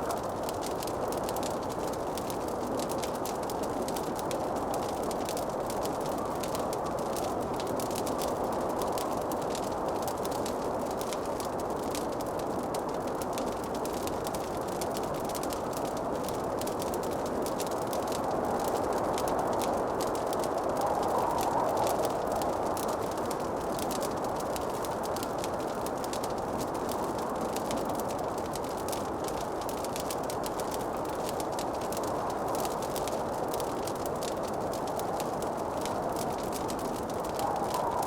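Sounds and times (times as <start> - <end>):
fire crackling and popping: 0.0 - 38.0.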